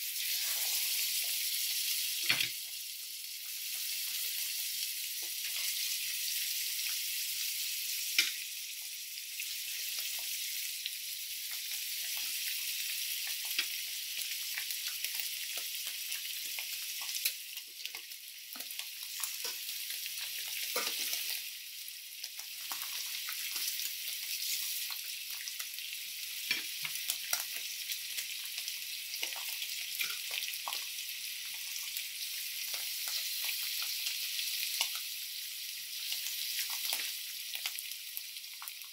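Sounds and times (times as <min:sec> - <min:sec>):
meat sizzling in a pan: 0:00.0 - 0:38.9.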